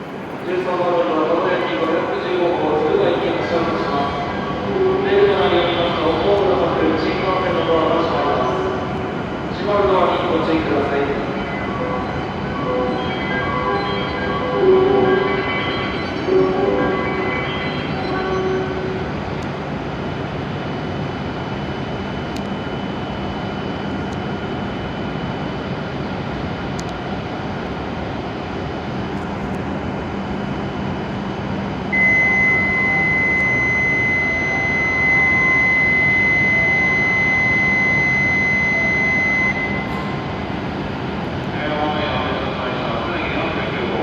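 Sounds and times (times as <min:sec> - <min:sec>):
high-speed train rushing: 0:00.0 - 0:44.0.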